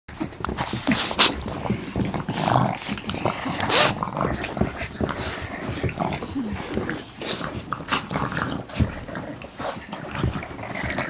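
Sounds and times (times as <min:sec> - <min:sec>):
puppies yapping and playing: 0:00.1 - 0:11.0.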